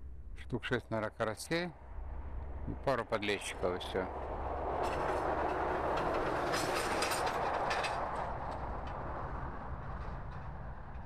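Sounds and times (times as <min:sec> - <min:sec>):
distant passing vehicle: 0:01.7 - 0:11.0.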